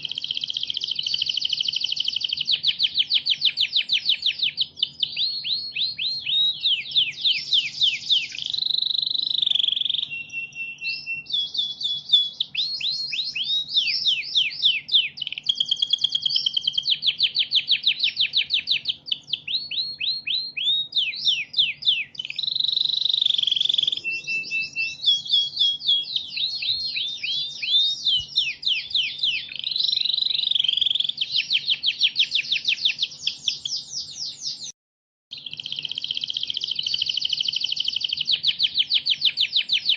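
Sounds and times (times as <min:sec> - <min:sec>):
songbird whistles and trills: 0:00.0 - 0:34.7, 0:35.3 - 0:39.9.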